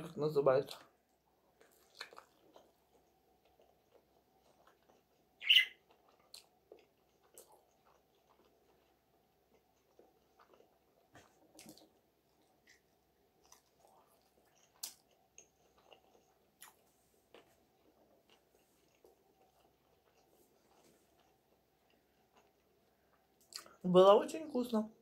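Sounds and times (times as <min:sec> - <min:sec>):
person chewing sausage: 0:00.7 - 0:23.8.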